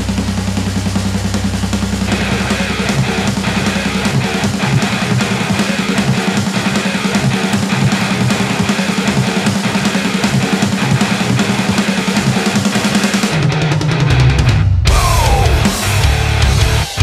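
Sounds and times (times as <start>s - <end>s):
distorted electric guitar: 0.0s - 17.0s
fast drumming: 0.0s - 17.0s.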